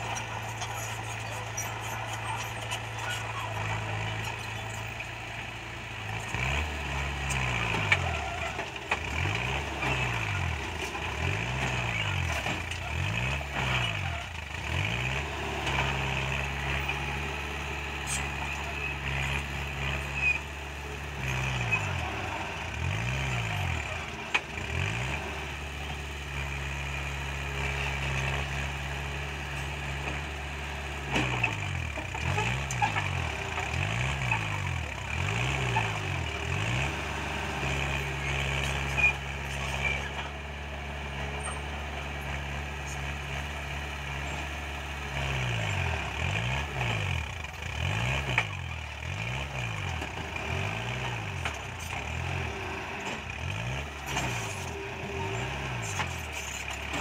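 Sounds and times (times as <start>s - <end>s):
bulldozer diesel engine under load: 0.0s - 57.0s
truck engine running: 0.0s - 57.0s.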